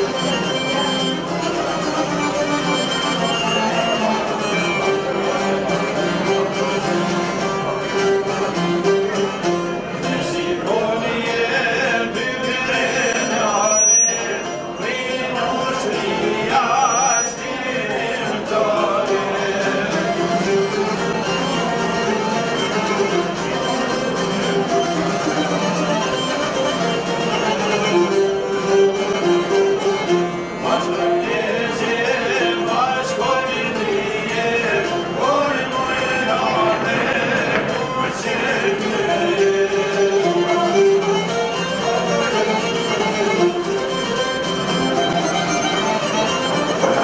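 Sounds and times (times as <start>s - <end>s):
accordion: 0.0s - 47.0s
plucked lutes: 0.0s - 47.0s
violin: 0.0s - 47.0s.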